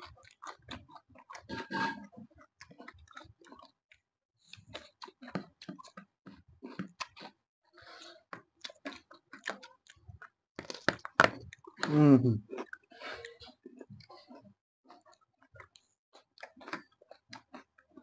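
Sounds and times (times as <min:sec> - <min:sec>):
chewing and mouth smacking: 0:00.0 - 0:18.0.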